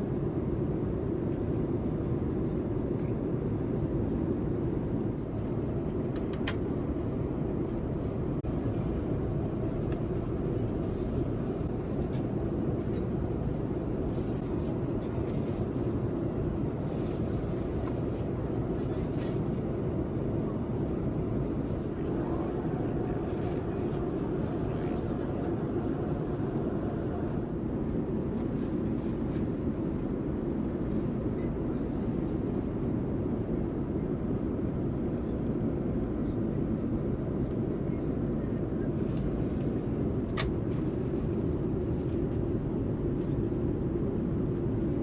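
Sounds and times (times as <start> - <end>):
airliner cabin noise: 0.0 - 45.0.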